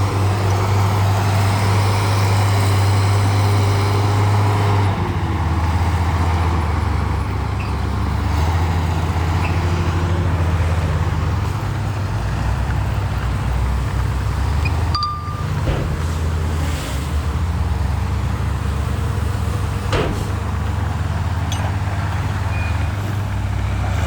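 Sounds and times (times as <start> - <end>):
heavy diesel engine drone: 0.0 - 24.0.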